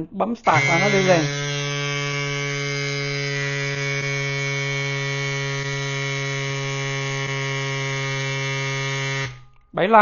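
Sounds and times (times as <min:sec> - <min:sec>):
electric bike pump buzzing: 0:00.4 - 0:09.6.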